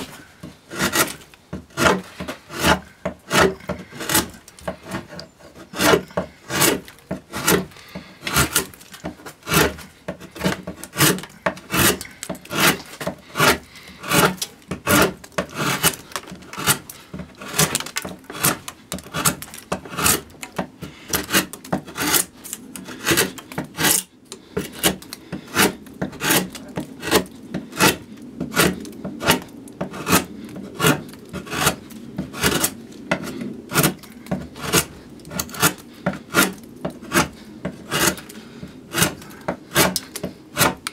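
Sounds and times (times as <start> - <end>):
gouge scraping wood: 0.0 - 40.9.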